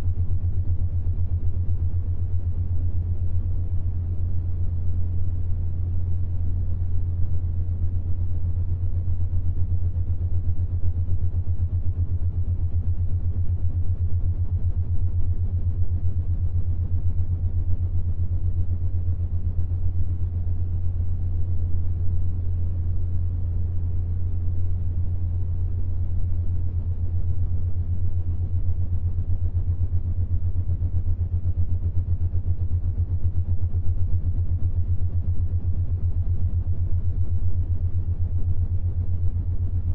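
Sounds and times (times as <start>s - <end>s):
low throbbing hum: 0.0s - 39.9s
soft rumbling hiss: 0.0s - 39.9s.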